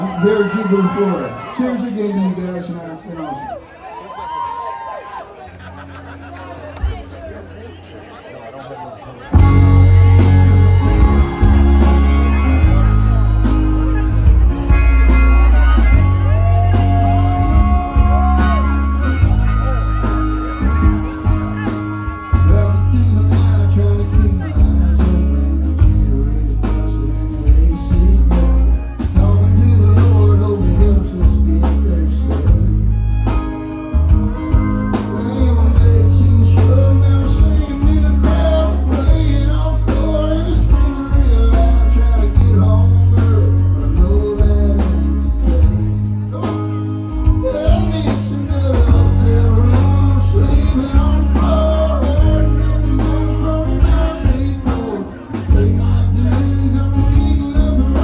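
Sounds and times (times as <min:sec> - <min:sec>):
live band playing: 0:00.0 - 0:04.4, 0:05.6 - 0:58.0
guitar: 0:00.0 - 0:58.0
heavy bass line: 0:09.3 - 0:58.0
man singing: 0:09.3 - 0:58.0.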